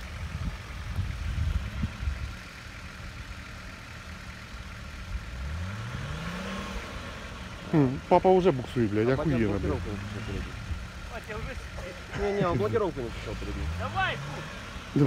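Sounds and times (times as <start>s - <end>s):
engine rumbling and revving: 0.0s - 15.0s.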